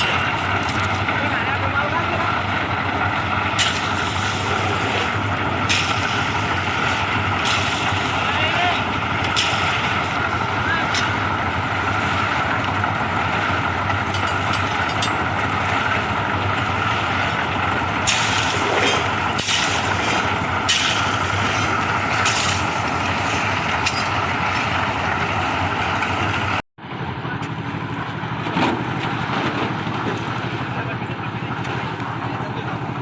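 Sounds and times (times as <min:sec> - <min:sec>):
concrete mixer running: 0:00.0 - 0:33.0.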